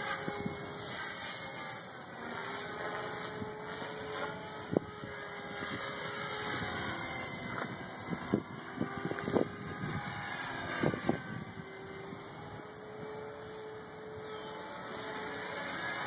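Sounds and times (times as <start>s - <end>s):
model helicopter motor whine: 0.0s - 16.0s.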